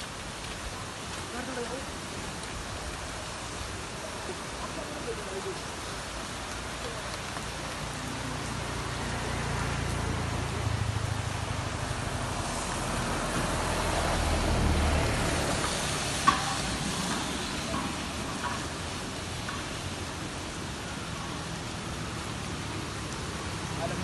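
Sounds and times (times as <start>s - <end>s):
fast-flowing floodwater: 0.0s - 24.0s
rain hiss: 0.0s - 24.0s.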